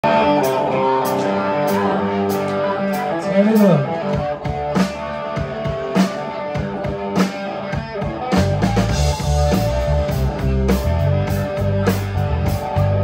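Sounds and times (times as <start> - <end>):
drums and cymbal hits: 0.0 - 13.0
electric guitar riff: 0.0 - 13.0
heavy bass guitar line: 0.0 - 13.0.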